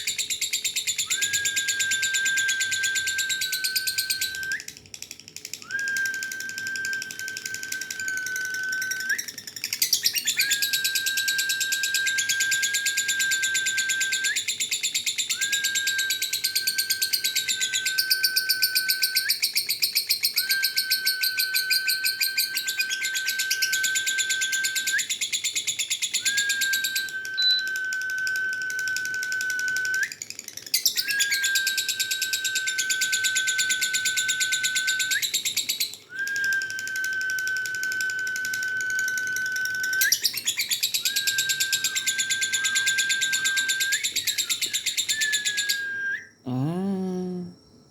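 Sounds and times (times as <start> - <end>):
high whistle-like tone: 1.0 - 4.7, 5.6 - 9.4, 10.1 - 14.6, 15.3 - 19.5, 20.3 - 25.3, 26.2 - 30.2, 30.8 - 47.5.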